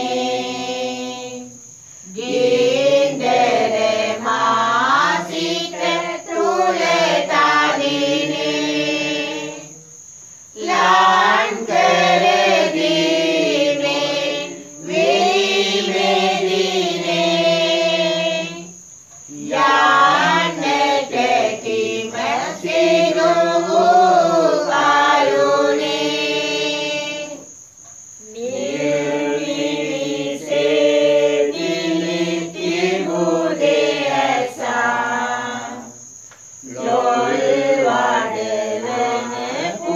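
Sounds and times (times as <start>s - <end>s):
group chanting: 0.0s - 9.9s, 10.6s - 27.5s, 28.2s - 39.9s.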